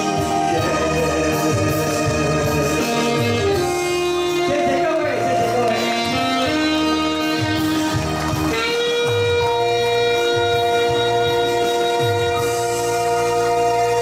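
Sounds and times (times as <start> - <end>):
bass line: 0.0 - 14.0
live band playing: 0.0 - 14.0.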